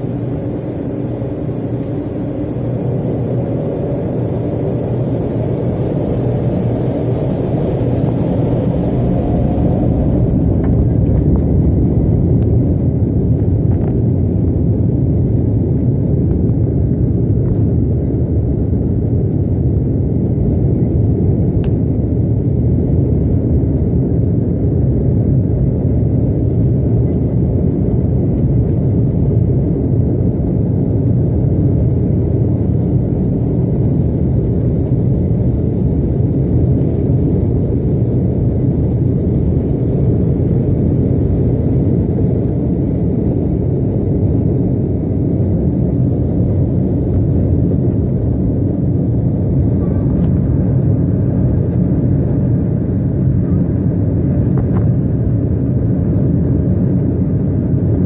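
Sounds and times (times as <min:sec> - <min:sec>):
jet engines and runway rumble: 0:00.0 - 0:58.0.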